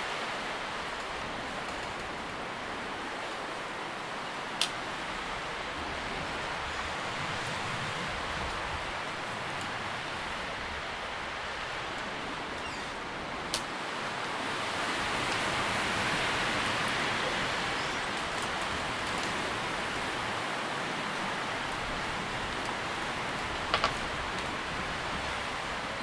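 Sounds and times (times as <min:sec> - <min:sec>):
leaves rustling in the wind: 0:00.0 - 0:26.0.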